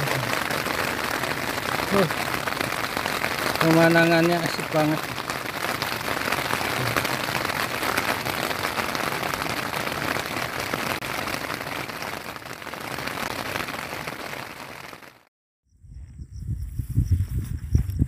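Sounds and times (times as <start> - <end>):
heavy rain on a tarp: 0.0 - 15.3.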